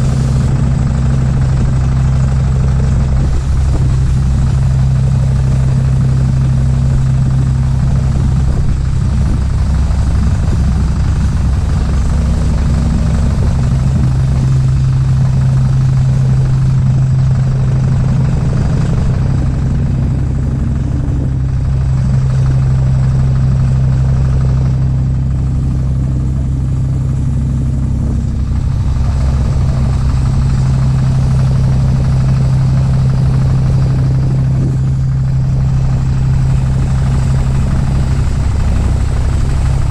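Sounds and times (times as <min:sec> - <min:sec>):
boat engine humming: 0:00.0 - 0:39.9
water and wind hissing: 0:00.0 - 0:39.9.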